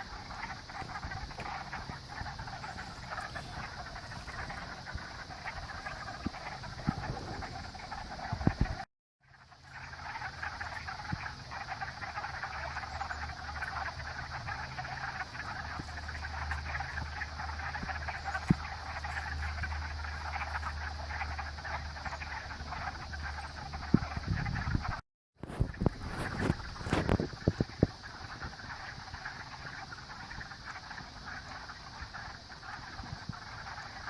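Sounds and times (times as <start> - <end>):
chorus of frogs calling: 0.0 - 34.0.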